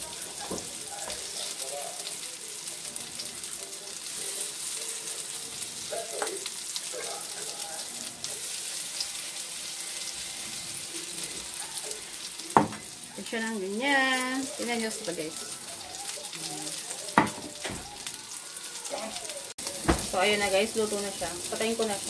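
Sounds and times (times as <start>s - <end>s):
patties sizzling in oil: 0.0s - 22.0s.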